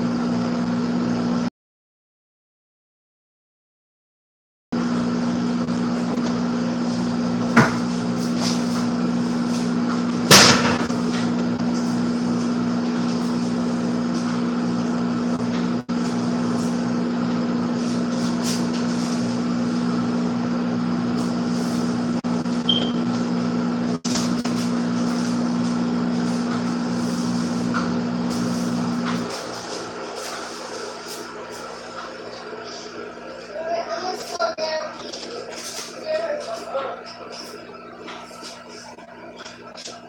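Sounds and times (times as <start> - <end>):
electric motor hum: 4.8 - 40.0.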